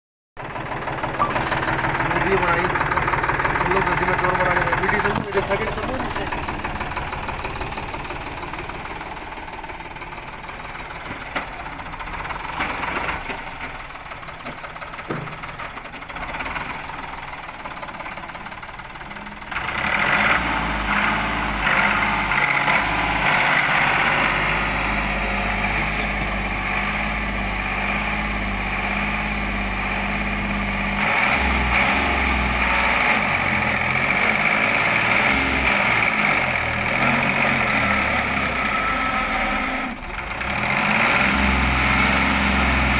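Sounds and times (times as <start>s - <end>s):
tractor diesel engine running: 0.4s - 42.9s.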